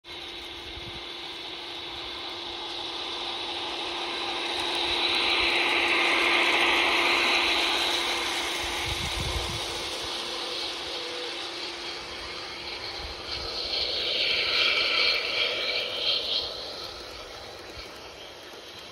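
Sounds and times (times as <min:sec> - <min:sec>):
model train motor whine: 0:00.0 - 0:18.9
wheels rolling on rail: 0:00.0 - 0:18.9.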